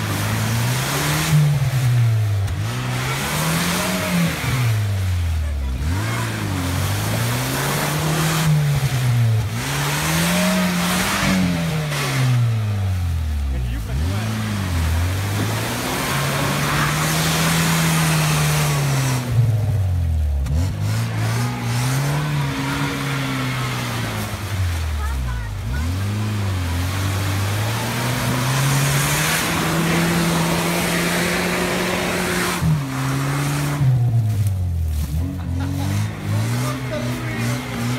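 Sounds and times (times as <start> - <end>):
vehicle churning through mud: 0.0 - 37.9
vehicle engine revving: 0.0 - 37.9.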